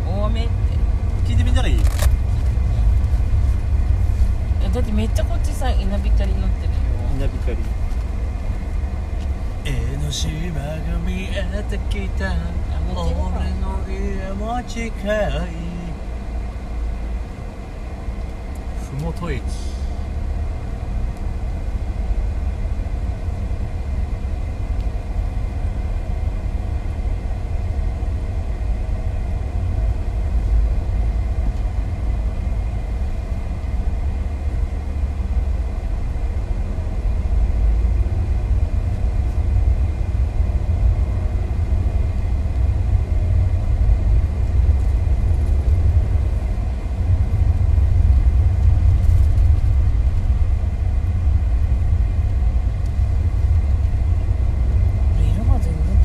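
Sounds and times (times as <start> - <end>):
car cabin road and engine drone: 0.0 - 56.0.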